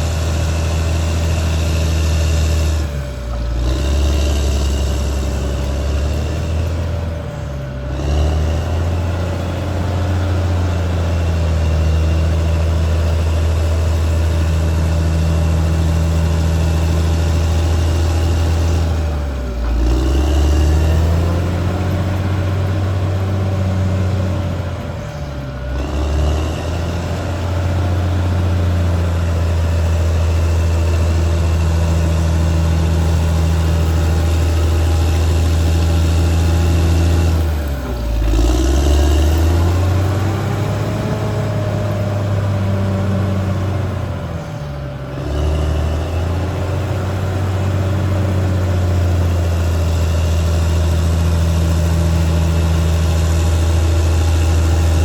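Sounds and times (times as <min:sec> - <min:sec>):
bulldozer diesel engine under load: 0:00.0 - 0:55.0.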